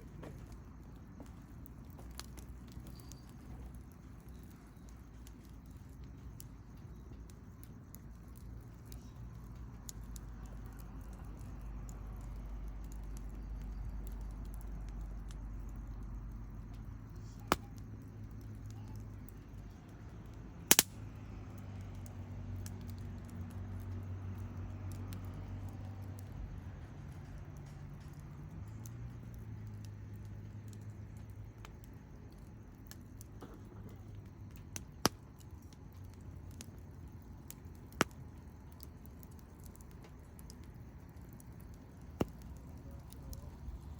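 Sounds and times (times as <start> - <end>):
campfire crackling: 0.0 - 43.9
fire popping: 0.0 - 43.9.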